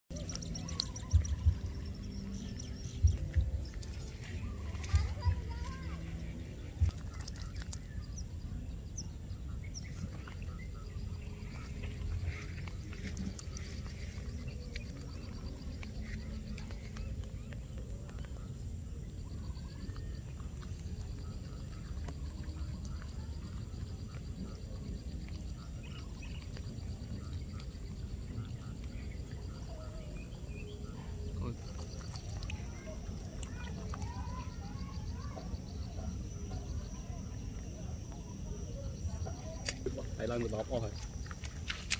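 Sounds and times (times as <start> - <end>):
frog croaking: 0.1 - 41.9
insects buzzing faintly: 0.1 - 41.9
small bird chirping: 0.1 - 41.9.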